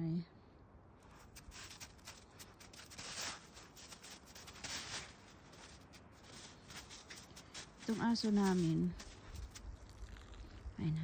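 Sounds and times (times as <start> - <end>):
crunching of crusty snow: 1.0 - 11.0.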